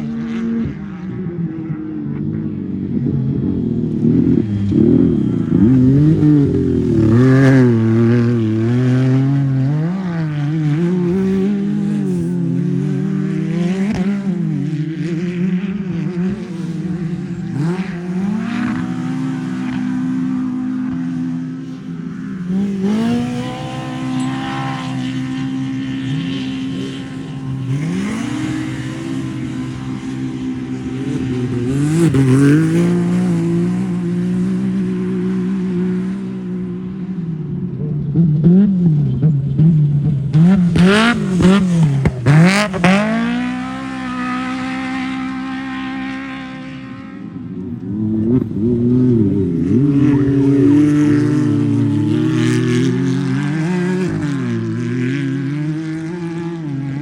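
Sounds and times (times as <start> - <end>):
racing engines revving: 0.0 - 57.0.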